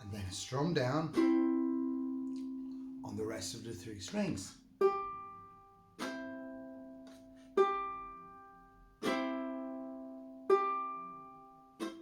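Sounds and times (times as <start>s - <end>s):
ukulele plucking and strumming: 0.0s - 12.0s.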